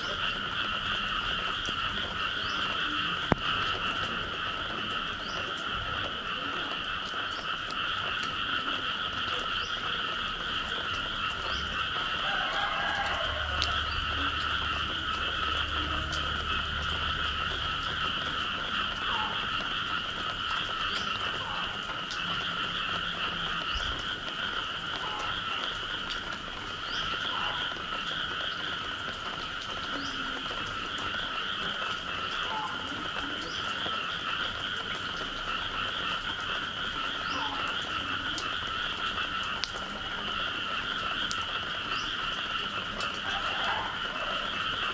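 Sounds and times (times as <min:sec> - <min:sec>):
chorus of frogs trilling: 0:00.0 - 0:44.9.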